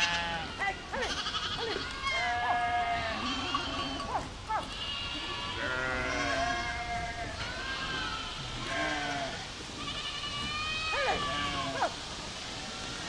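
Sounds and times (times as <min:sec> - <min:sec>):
goats bleating: 0:00.0 - 0:12.0.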